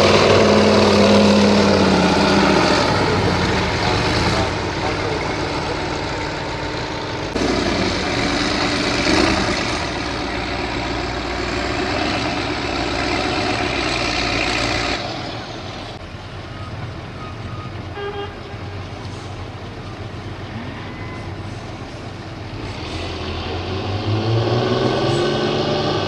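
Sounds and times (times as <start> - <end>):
truck diesel engine working hard: 0.0 - 26.0.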